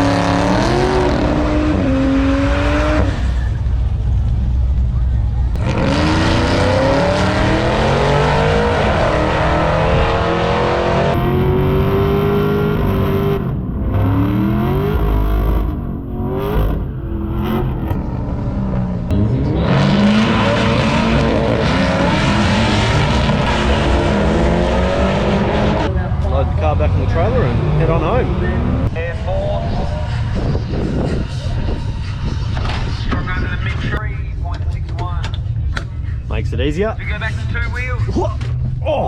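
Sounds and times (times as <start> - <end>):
race car engines accelerating: 0.0 - 36.4.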